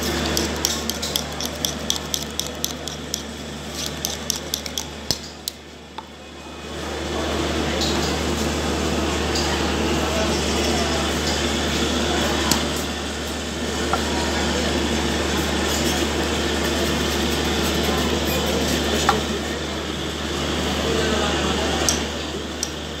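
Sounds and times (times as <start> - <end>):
people talking: 0.0 - 5.2, 6.0 - 23.0.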